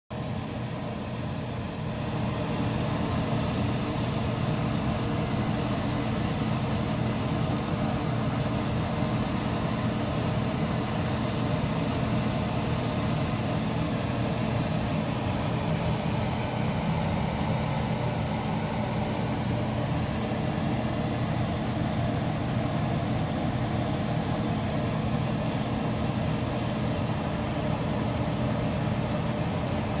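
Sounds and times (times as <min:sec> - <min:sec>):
gas stove hum and rushing: 0:00.1 - 0:30.0.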